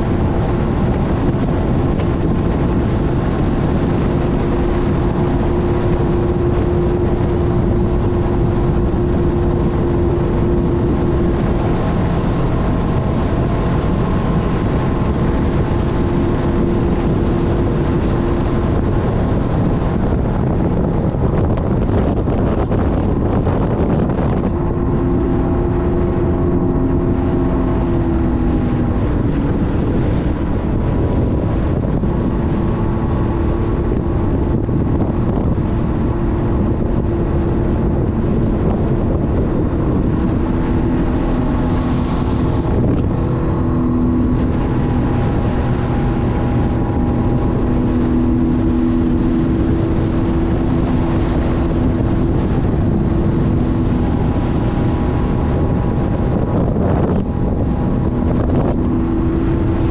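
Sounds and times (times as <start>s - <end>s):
watercraft engine humming: 0.0s - 59.9s
wind buffeting microphone: 0.0s - 59.9s.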